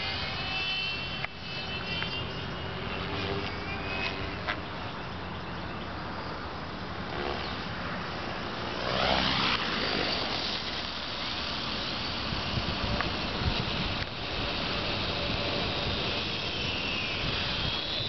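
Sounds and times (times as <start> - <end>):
rc helicopter rotor whooshing: 0.0 - 18.0.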